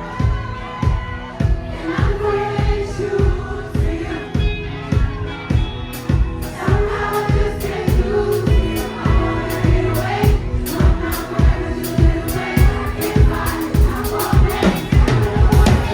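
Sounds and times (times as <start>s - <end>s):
band playing: 0.0s - 15.9s
bass: 0.0s - 15.9s
gospel choir singing: 0.0s - 15.9s
kick drum beat: 0.2s - 15.9s.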